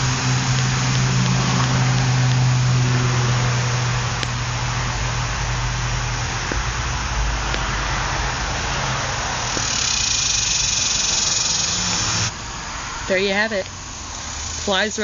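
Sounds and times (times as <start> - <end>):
low hum: 0.0 - 14.7
cicada buzzing: 0.0 - 15.0
rushing background noise: 0.0 - 15.0.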